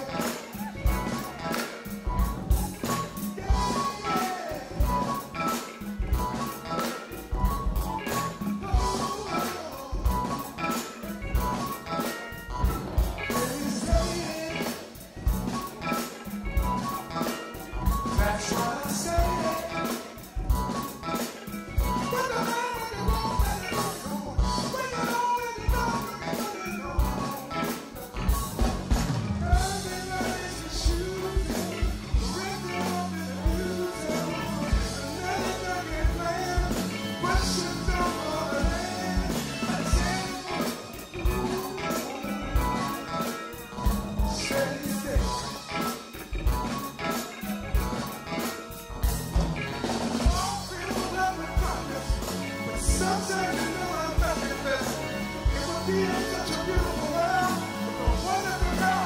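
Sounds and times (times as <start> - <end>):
drum kit beat: 0.0 - 59.0
live band playing soul music: 0.0 - 59.0.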